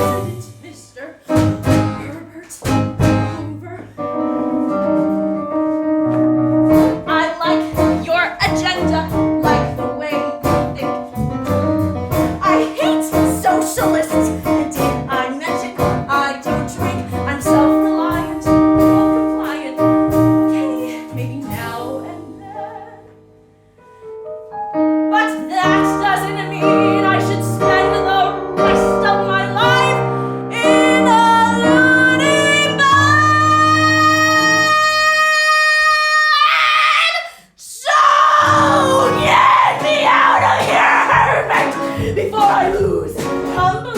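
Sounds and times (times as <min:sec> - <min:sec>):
piano playing repeated chords: 0:00.0 - 0:35.0, 0:38.4 - 0:43.9.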